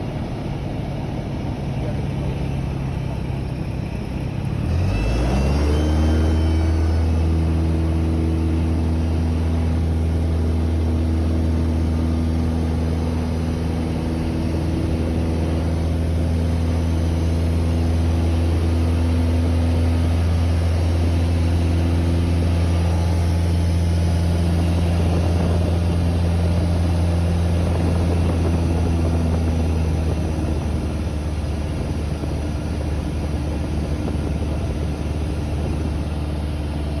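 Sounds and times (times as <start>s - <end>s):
airplane engine and propeller droning: 0.0s - 37.0s.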